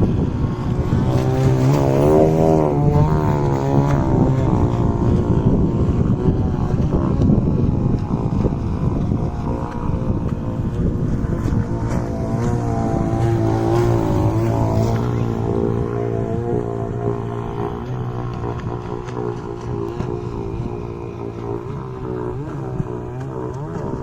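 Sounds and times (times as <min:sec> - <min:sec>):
model boat engine running: 0:00.0 - 0:24.0
wind on microphone: 0:00.0 - 0:24.0.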